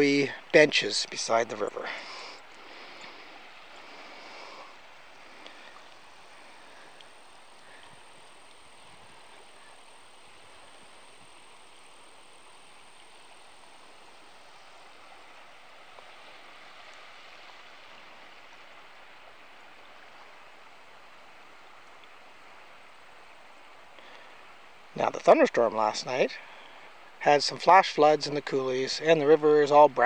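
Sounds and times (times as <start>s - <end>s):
outdoor ambience hiss: 0.0s - 30.0s.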